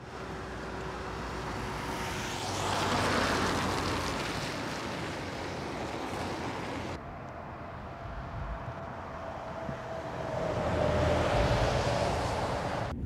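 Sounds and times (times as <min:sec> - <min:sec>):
road traffic passing: 0:00.0 - 0:12.9.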